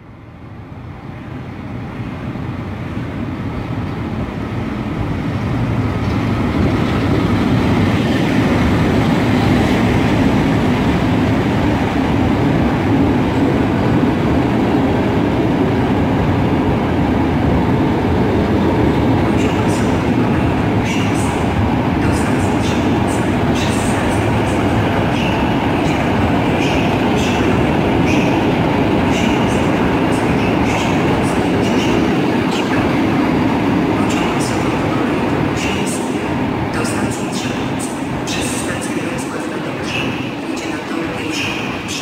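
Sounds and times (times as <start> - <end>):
passenger train rumbling past: 0.0 - 42.0.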